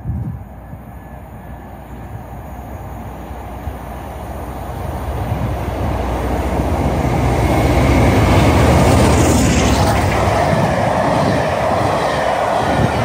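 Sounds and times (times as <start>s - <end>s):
train rumble and rail noise: 0.0s - 13.0s.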